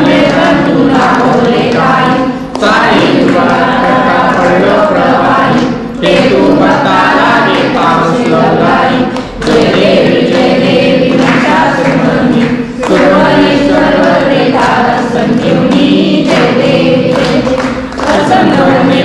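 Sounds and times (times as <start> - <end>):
group singing devotional song: 0.0 - 19.0.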